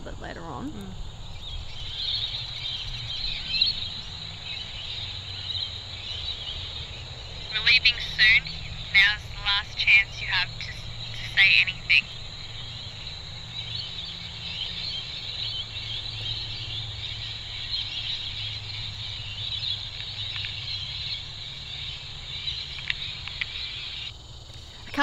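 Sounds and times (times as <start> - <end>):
flock of birds chattering: 0.0 - 25.0
steady low hum: 0.0 - 25.0.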